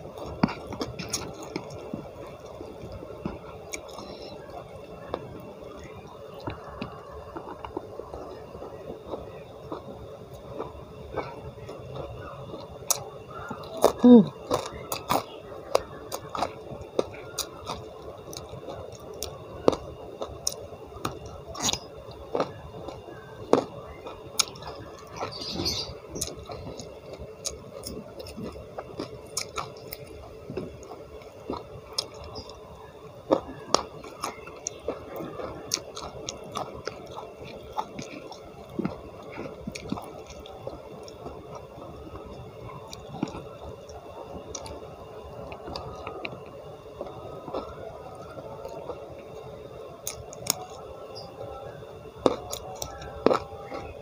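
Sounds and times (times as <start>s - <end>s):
person chewing and crunching: 0.0s - 50.8s, 52.2s - 54.0s.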